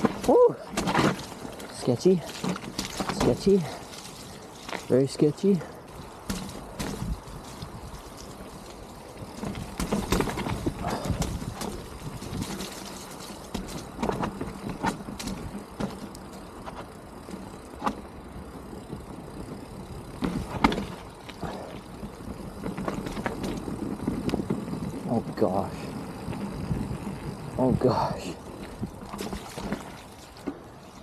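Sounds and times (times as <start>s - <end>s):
bike knocking over bumps: 0.0s - 30.7s
bike tyres rumbling on trail: 0.0s - 31.0s.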